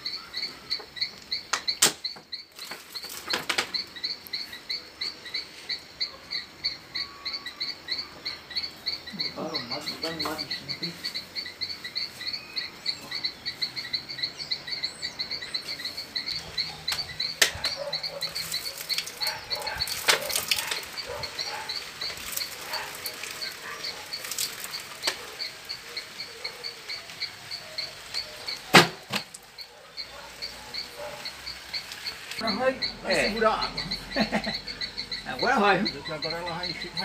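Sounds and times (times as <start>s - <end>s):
cricket-like chirping: 0.0s - 37.0s.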